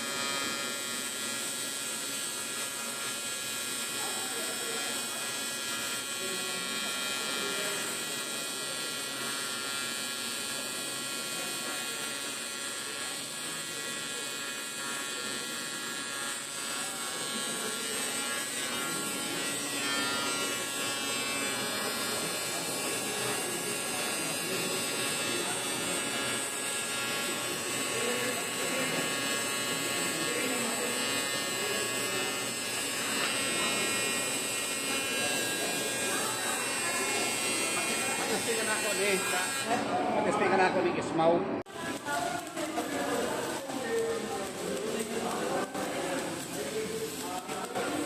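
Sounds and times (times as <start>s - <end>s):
welding equipment buzzing: 0.0s - 40.8s, 41.6s - 48.0s.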